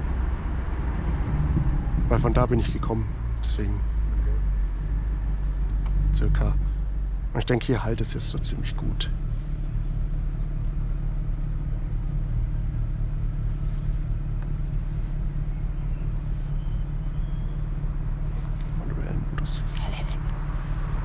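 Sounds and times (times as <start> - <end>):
car engine droning: 0.0 - 21.0
tyre and road noise: 0.0 - 21.0.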